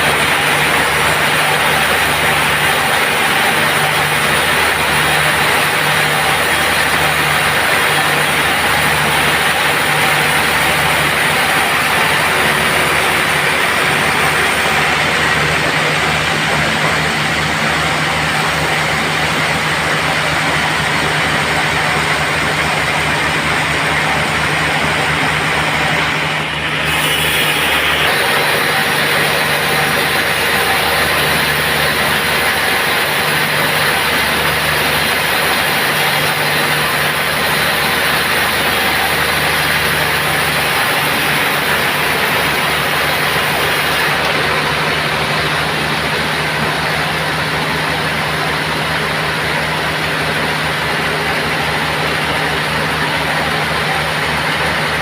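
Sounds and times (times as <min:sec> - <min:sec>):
band sawmill hum: 0:00.0 - 0:55.0.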